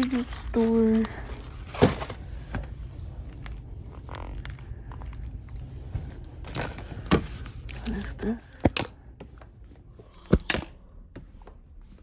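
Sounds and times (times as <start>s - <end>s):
soft handling rustles: 0.0s - 9.9s
low background hum: 0.0s - 12.0s.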